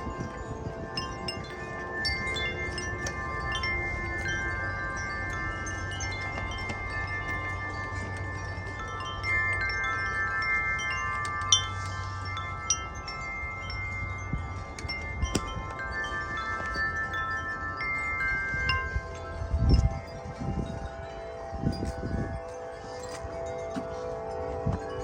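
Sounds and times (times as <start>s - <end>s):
wind chimes ringing: 0.0s - 25.0s
wind rumbling on microphone: 0.0s - 25.0s.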